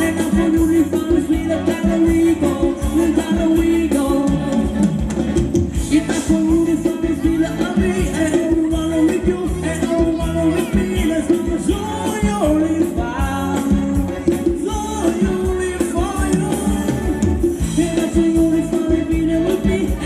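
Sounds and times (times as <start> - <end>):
drum beat: 0.0 - 20.0
live band playing dance music: 0.0 - 20.0
person singing: 0.0 - 20.0.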